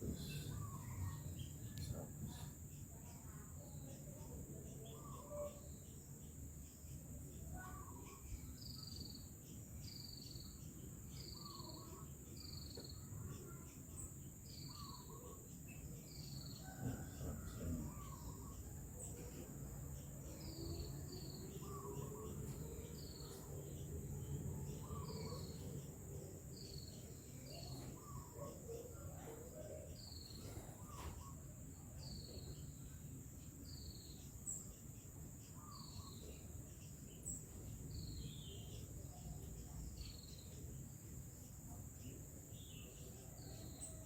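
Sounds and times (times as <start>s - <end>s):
bird chirps: 0.0s - 44.0s.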